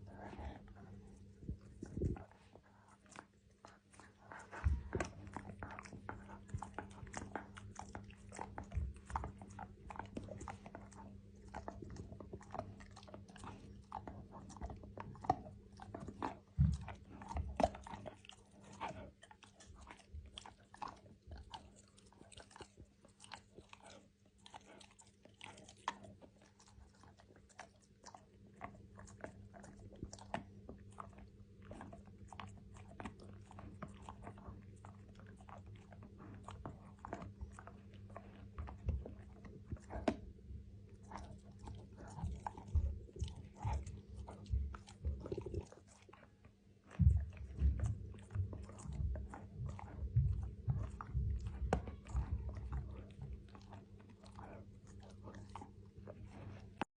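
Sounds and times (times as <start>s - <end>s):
dog crunching hard chew: 4.0s - 40.3s, 40.9s - 46.3s, 46.9s - 56.8s.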